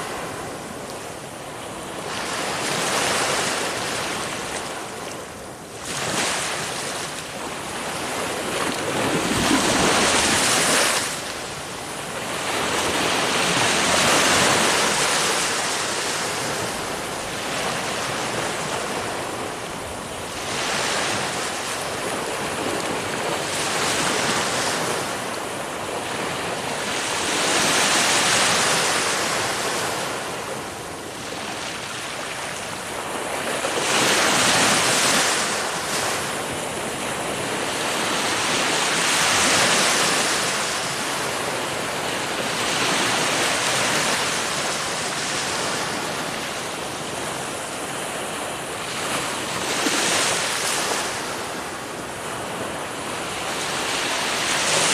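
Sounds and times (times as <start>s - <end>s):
ocean waves breaking: 0.0s - 54.9s
wind noise: 0.0s - 54.9s.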